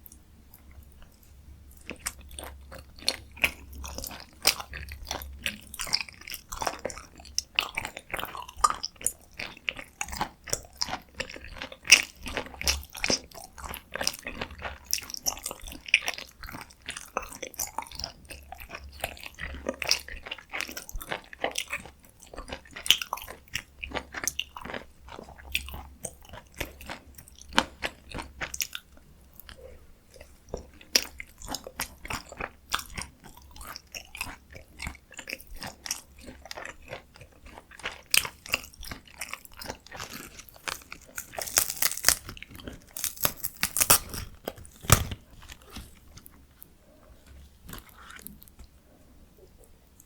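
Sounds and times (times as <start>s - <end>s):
chewing with wet mouth clicks: 0.0s - 46.4s.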